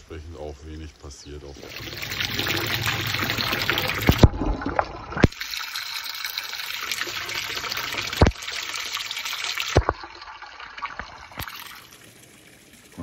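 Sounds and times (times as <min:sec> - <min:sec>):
water running and splashing: 0:01.4 - 0:13.0.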